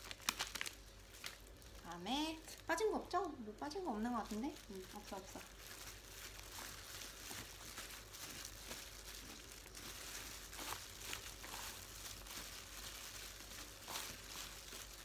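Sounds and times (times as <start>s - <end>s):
plastic gloves crinkling: 0.0s - 15.0s
salad ingredients rustling: 0.0s - 15.0s.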